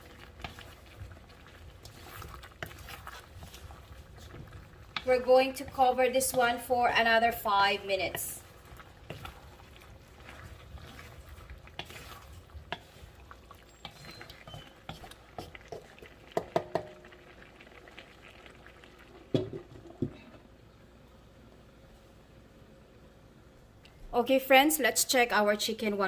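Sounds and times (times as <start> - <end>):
food simmering in a pan: 0.0 - 23.6.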